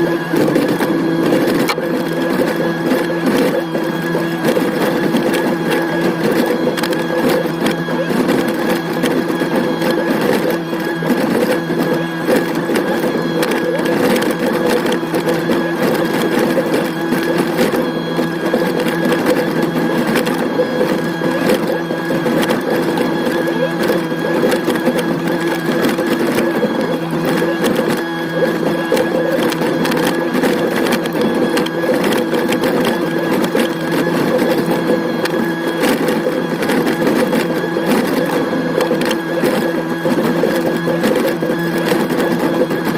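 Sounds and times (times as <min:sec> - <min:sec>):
excavator engine and hydraulics: 0:00.0 - 0:42.9
fine rapid clatter: 0:00.0 - 0:42.9.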